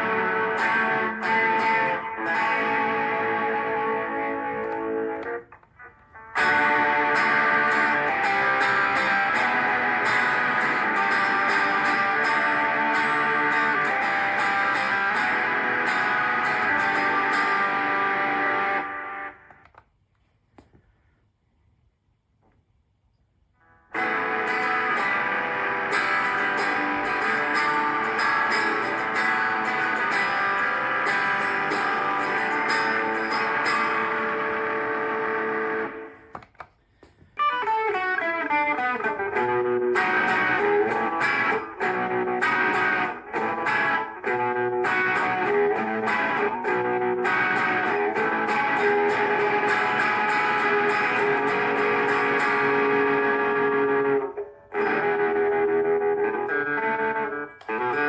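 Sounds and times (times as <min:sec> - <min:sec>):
guitar notes gliding down: 0:00.0 - 0:19.5, 0:23.6 - 0:36.2, 0:37.4 - 0:58.0
electric guitar with effects: 0:00.0 - 0:19.8, 0:23.6 - 0:58.0.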